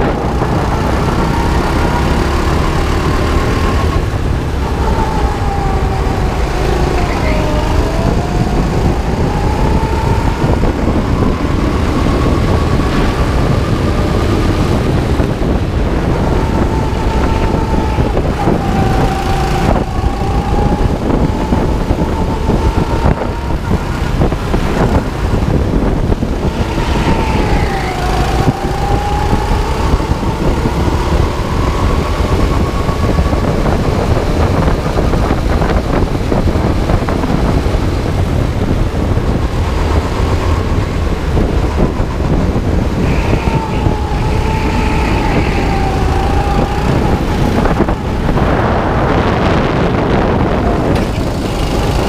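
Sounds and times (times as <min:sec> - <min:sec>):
go-kart engine whining: 0:00.0 - 0:52.0
wind rumble: 0:00.0 - 0:52.0.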